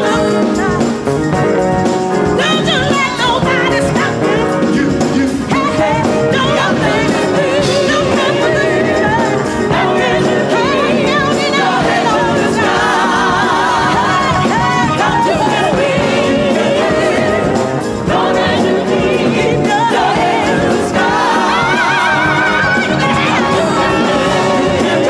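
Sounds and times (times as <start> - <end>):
band accompaniment: 0.0 - 25.0
gospel choir singing: 0.0 - 25.0.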